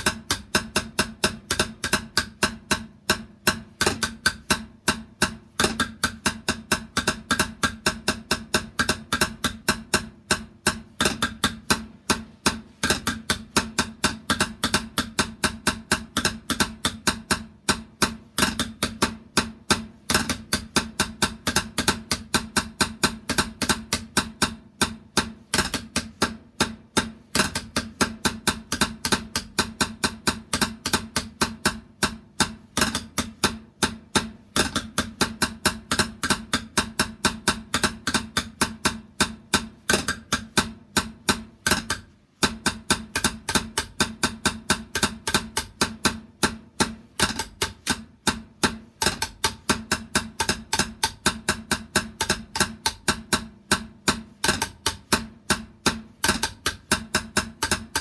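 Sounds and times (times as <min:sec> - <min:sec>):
fast drumming: 0:00.0 - 0:58.0.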